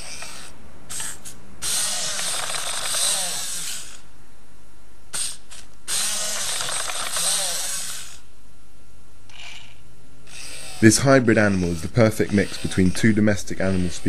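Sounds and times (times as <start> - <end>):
robot servo motors whirring: 0.0 - 4.0, 5.2 - 8.2, 9.3 - 14.0.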